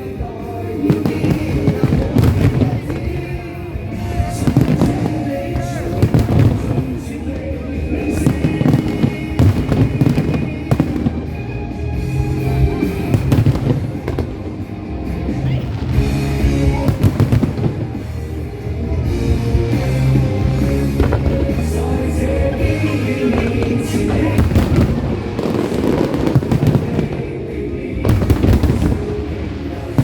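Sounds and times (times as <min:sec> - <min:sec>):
fireworks banging: 0:00.0 - 0:30.0
loud music: 0:00.0 - 0:30.0.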